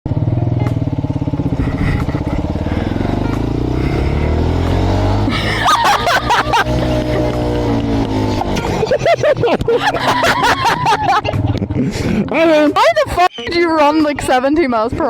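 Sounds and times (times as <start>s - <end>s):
motorcycle engine running: 0.1s - 13.2s.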